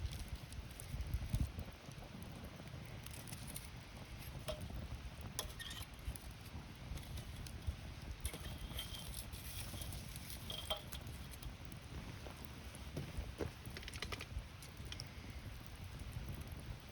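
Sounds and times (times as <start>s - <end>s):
campfire crackling and popping: 0.0s - 16.9s
fire low rumble: 0.0s - 16.9s.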